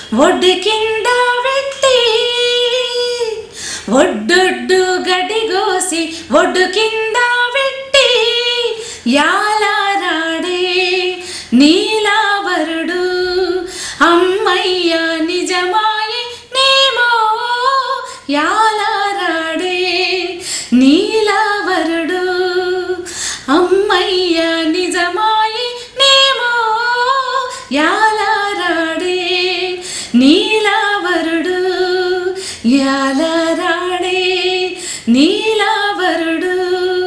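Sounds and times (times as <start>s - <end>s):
woman singing unaccompanied: 0.0s - 37.0s.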